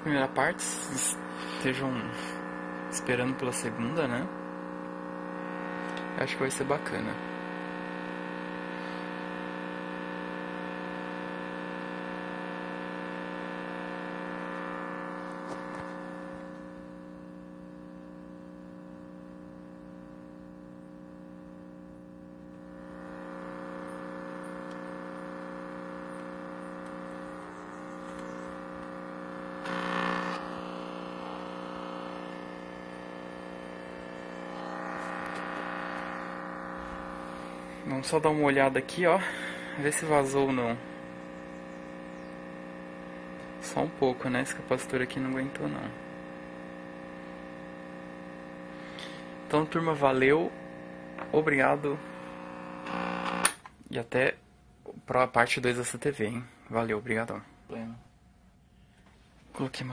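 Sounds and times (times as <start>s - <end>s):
loudspeaker buzz: 0.0s - 17.4s, 22.6s - 53.4s.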